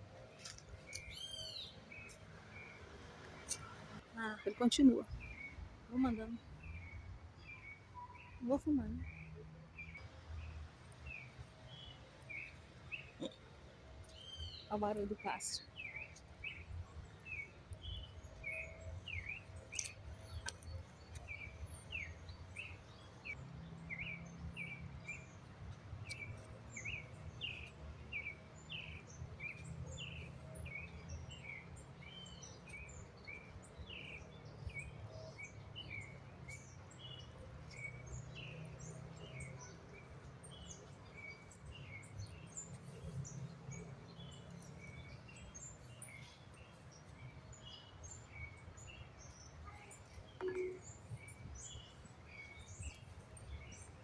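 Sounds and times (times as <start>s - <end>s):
birds chirping: 0.1s - 54.0s.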